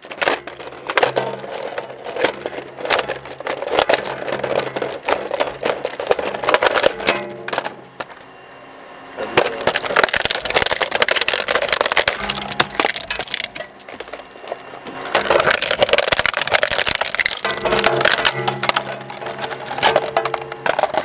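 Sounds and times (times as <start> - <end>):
shredder crunching plastic: 0.0 - 8.2, 9.2 - 21.0.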